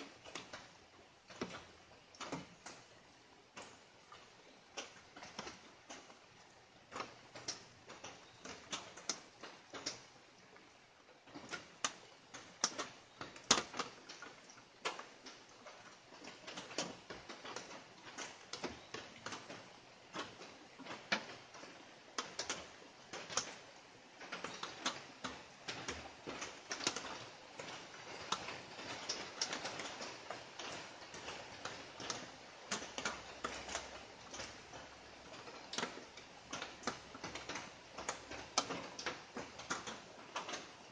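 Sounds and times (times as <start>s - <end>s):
raindrops pattering: 0.0s - 40.9s.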